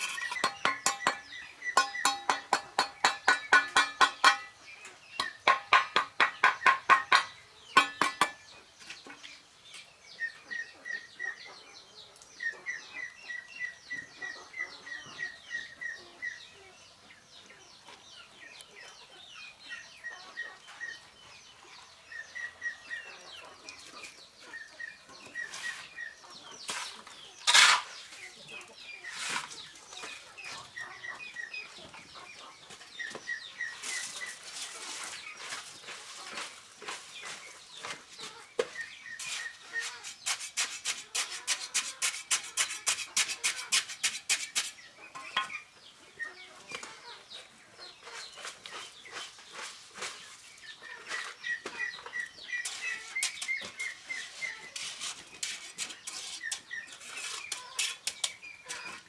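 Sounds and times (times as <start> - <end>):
chickens cheeping: 10.2 - 40.4, 41.0 - 59.0.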